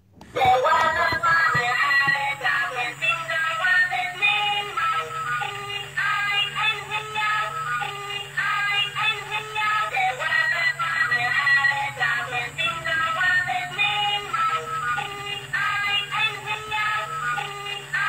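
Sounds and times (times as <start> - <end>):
small motor humming: 0.4 - 18.0.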